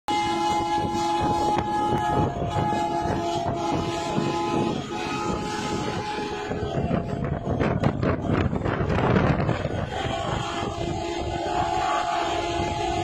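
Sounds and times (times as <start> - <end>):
heavy diesel engine: 0.1 - 13.0
truck air horn blowing: 0.1 - 13.0
wind noise: 0.1 - 13.0.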